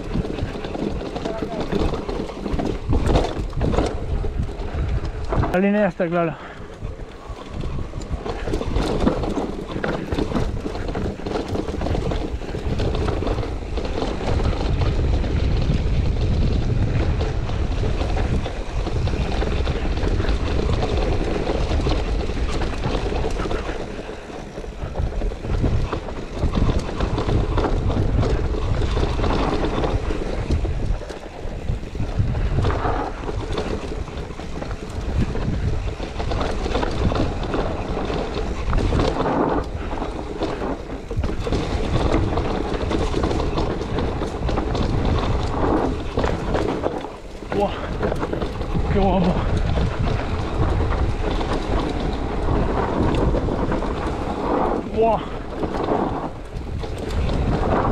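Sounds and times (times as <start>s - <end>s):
bike rattling: 0.0s - 57.9s
tyres rolling over loose rock: 0.0s - 57.9s
wind noise on microphone: 0.0s - 57.9s.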